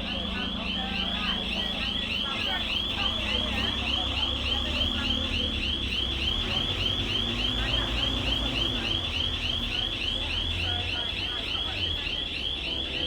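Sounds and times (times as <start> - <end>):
electronic alarm warbling chirps: 0.0 - 13.0.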